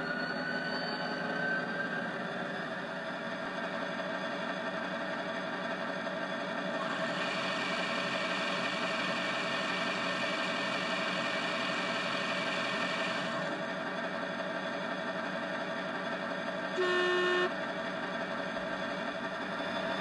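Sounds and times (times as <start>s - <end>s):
diesel engine idling through speaker: 0.0s - 20.0s.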